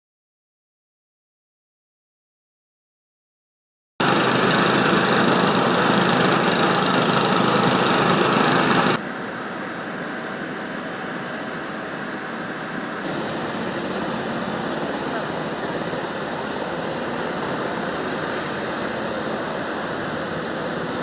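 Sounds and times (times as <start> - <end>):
aircraft engine noise: 4.0 - 21.0
high steady whine: 4.0 - 21.0.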